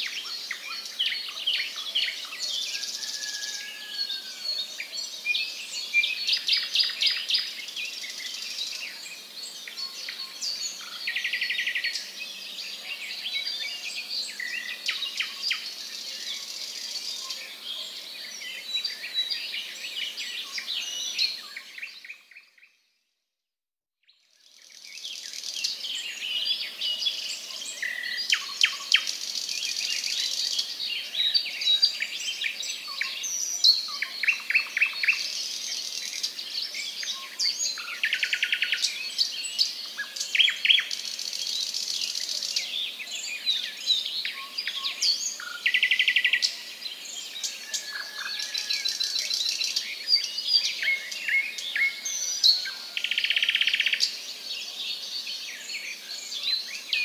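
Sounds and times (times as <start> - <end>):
birds chirping chorus: 0.0 - 22.8, 24.4 - 57.0.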